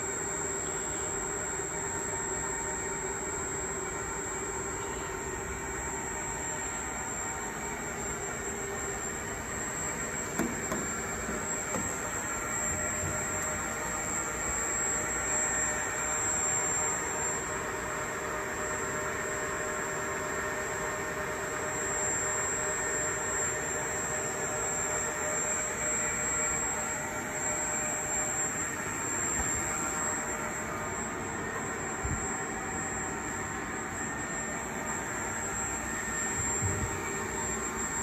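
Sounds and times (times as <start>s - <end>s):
high-pitched whine: 0.0s - 38.0s
machinery whir and hum: 0.0s - 38.0s.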